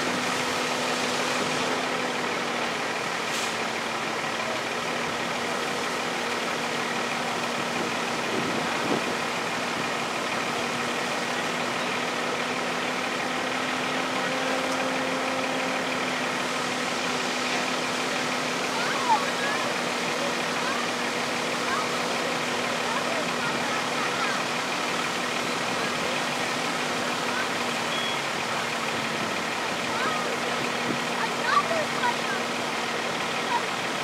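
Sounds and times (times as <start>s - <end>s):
diesel engine running steadily: 0.0s - 34.0s.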